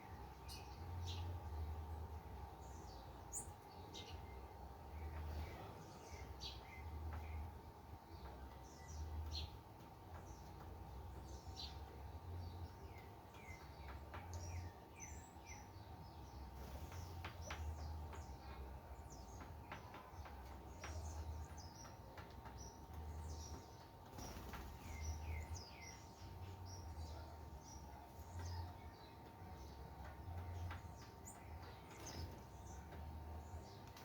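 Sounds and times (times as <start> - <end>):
small birds chirping and twittering: 0.0 - 34.0.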